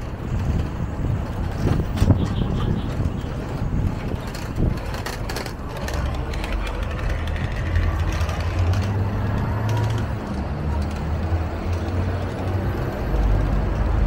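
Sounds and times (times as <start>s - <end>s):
city street traffic: 0.0s - 14.0s
heavy vehicle engine rumble: 0.0s - 14.0s.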